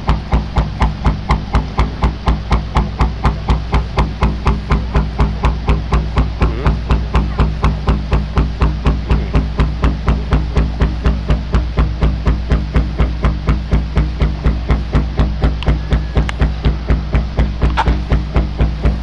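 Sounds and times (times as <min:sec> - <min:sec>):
held bass line: 0:00.0 - 0:19.0.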